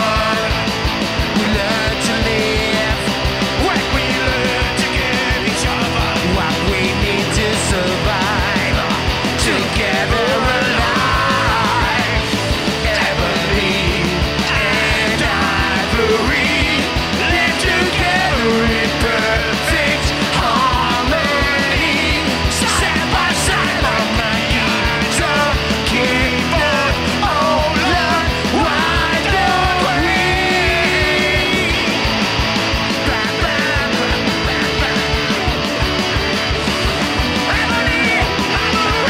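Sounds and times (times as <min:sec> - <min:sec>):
fast drumbeat: 0:00.0 - 0:39.0
punk rock band playing: 0:00.0 - 0:39.0.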